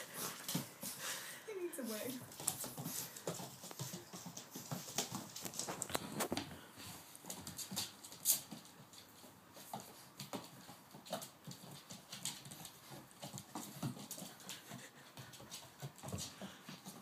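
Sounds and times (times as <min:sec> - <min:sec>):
puppy claws clicking on wood floor: 0:02.2 - 0:17.0.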